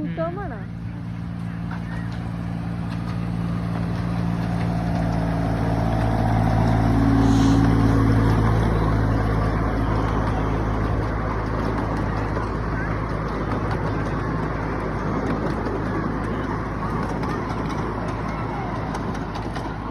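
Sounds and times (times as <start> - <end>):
train engine drone: 0.0 - 19.9.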